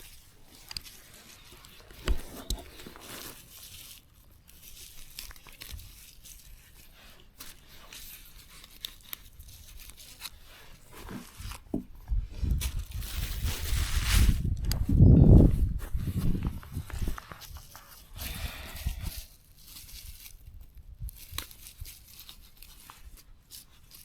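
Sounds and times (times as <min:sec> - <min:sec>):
leaves and stems tearing and rustling: 0:00.0 - 0:11.7, 0:12.4 - 0:24.0.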